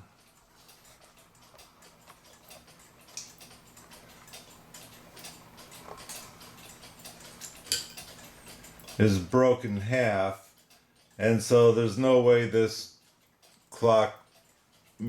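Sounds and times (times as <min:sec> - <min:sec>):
clock parts clicking: 0:00.0 - 0:15.0.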